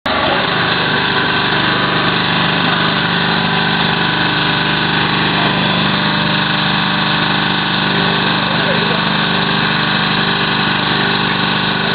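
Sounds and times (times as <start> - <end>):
motor and pump humming: 0.0 - 11.9.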